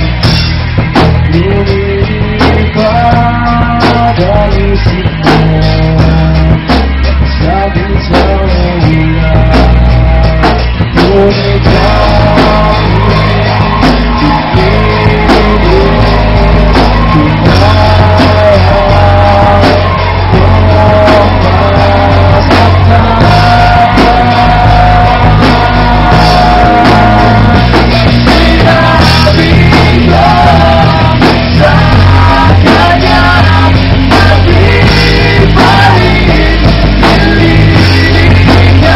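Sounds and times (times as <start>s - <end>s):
man singing: 0.0s - 38.9s
rock band playing live: 0.0s - 38.9s.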